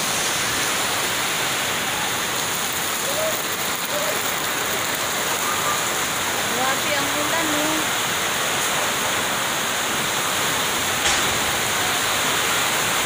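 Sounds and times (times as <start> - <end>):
heavy rain on metal roofs: 0.0 - 13.0.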